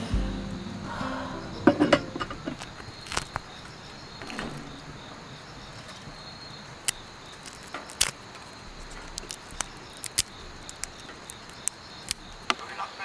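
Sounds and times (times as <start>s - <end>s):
crickets chirring: 0.0s - 13.0s
wood fire crackling and popping: 1.6s - 12.6s.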